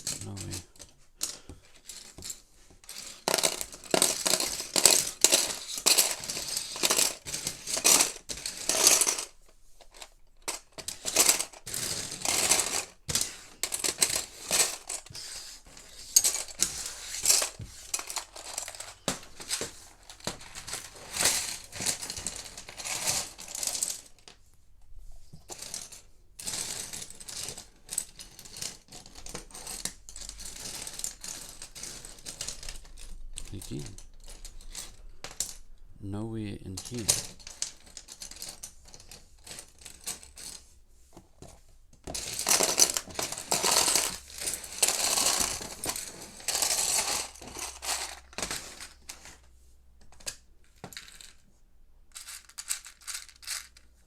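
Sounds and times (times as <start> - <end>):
plastic pieces clattering: 0.0 - 24.2, 25.4 - 35.6, 36.8 - 40.6, 41.5 - 49.4, 50.1 - 51.4, 52.1 - 54.0.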